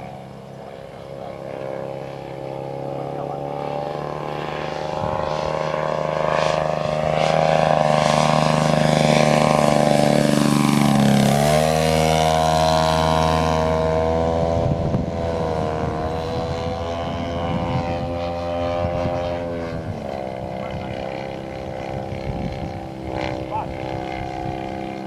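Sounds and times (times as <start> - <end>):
model plane engine and propeller: 0.0 - 25.0.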